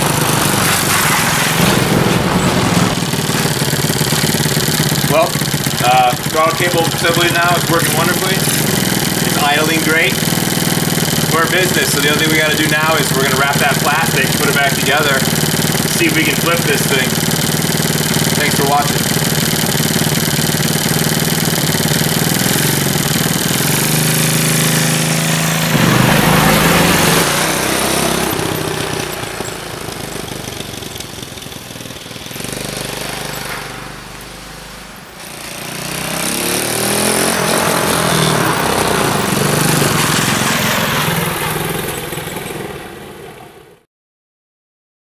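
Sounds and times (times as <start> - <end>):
atv engine idling and revving: 0.0 - 43.8.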